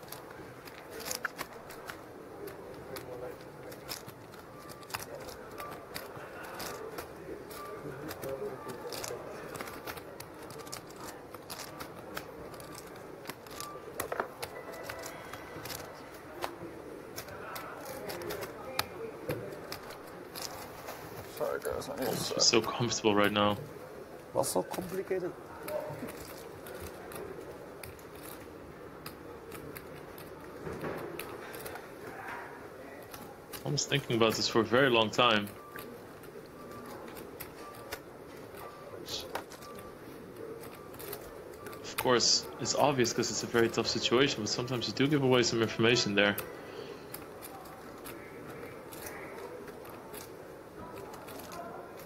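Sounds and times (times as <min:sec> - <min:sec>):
poker chips clicking: 0:00.0 - 0:20.8, 0:24.7 - 0:32.0, 0:33.0 - 0:52.0
low room noise: 0:00.0 - 0:52.0.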